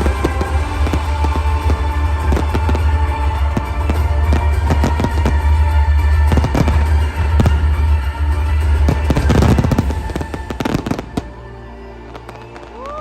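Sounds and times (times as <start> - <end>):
loud music with heavy bass: 0.0 - 11.3
fireworks bursting and crackling: 0.0 - 13.0.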